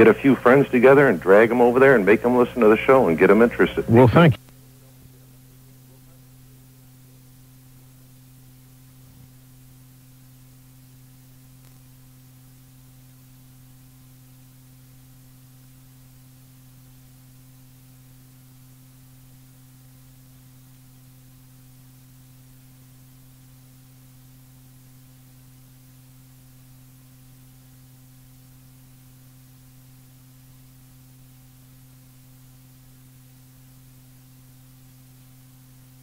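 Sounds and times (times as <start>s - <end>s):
faint tape hiss: 0.0s - 36.0s
low electrical hum: 0.0s - 36.0s.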